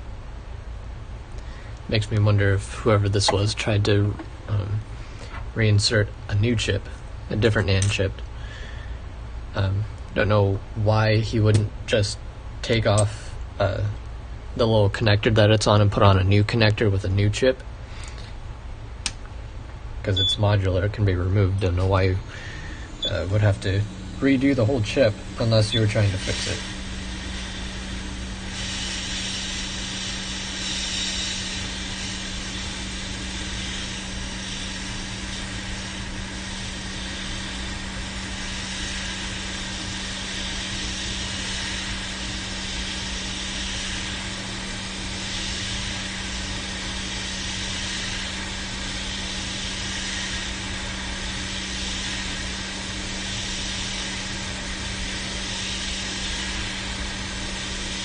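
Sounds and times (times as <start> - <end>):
hot-air blower hissing: 0.0 - 58.0.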